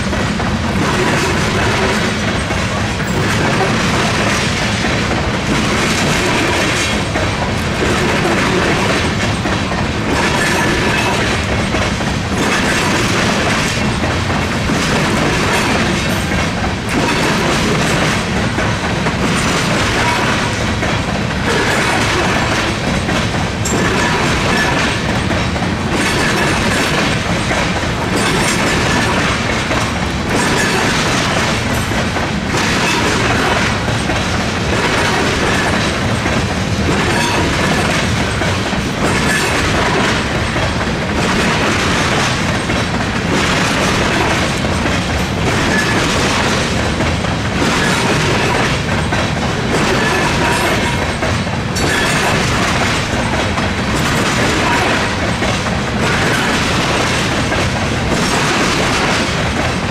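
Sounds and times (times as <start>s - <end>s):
freight train wheels rumbling: 0.0s - 59.9s
wheel clacks over crossing: 0.0s - 59.9s.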